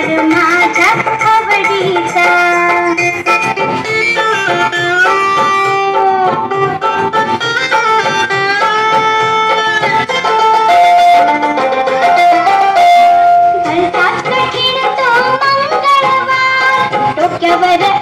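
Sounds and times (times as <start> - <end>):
plucked-string music with beat: 0.0 - 18.0.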